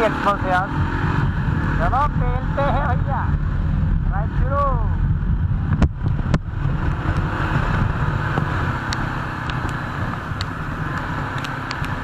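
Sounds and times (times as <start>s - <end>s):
motorcycle engine rumble: 0.0s - 12.0s
wind rush: 0.0s - 12.0s.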